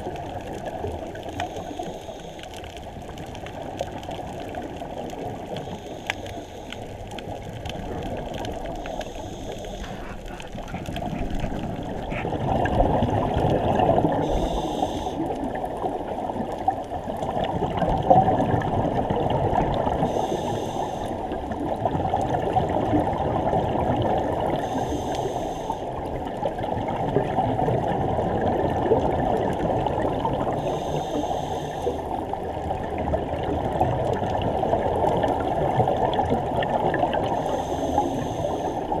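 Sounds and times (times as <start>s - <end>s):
exhaled bubbles gurgling: 0.0s - 39.0s
muffled underwater rush: 0.0s - 39.0s.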